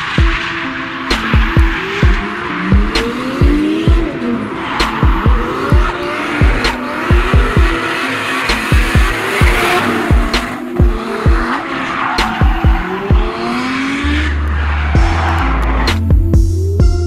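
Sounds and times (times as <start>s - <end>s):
electronic music with kick drum: 0.0s - 11.6s, 12.2s - 13.7s, 15.0s - 17.0s
tyres squealing: 0.0s - 16.2s
car engine revving: 0.0s - 16.8s.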